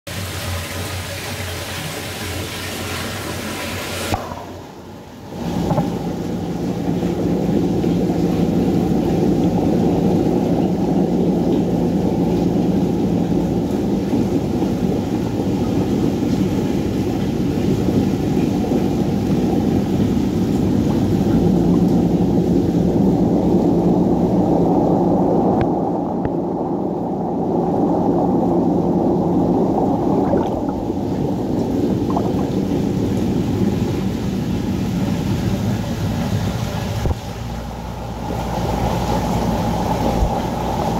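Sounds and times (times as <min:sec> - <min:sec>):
pumps humming: 0:00.1 - 0:40.9
underwater water rumble: 0:02.4 - 0:40.9.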